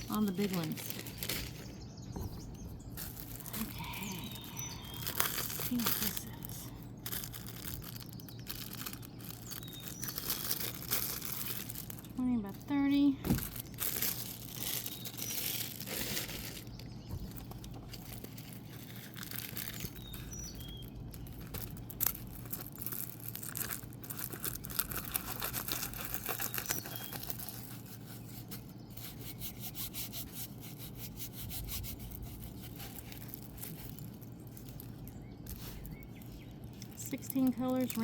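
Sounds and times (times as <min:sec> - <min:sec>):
plastic film rustling and crinkling: 0:00.0 - 0:29.5, 0:30.8 - 0:38.0.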